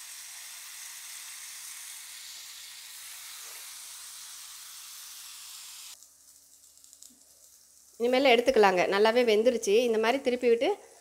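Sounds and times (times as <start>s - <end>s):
food sizzling in butter: 0.0s - 11.0s.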